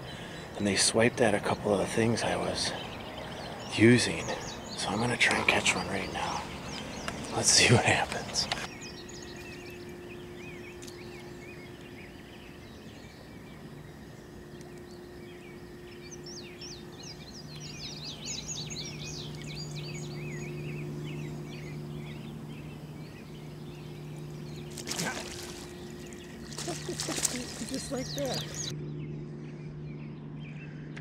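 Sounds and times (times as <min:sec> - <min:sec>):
small birds chirping: 0:00.0 - 0:31.0
steady low hum: 0:00.0 - 0:31.0.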